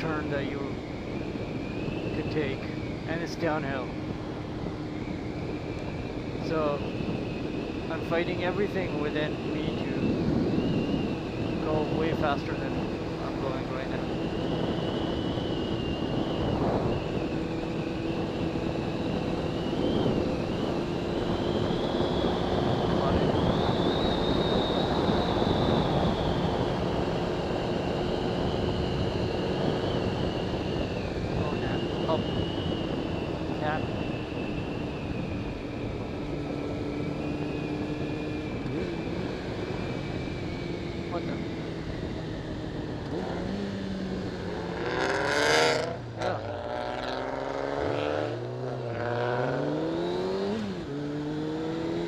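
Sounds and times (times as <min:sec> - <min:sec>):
motorcycle engine cruising: 0:00.0 - 0:52.0
wind on microphone: 0:00.0 - 0:52.0.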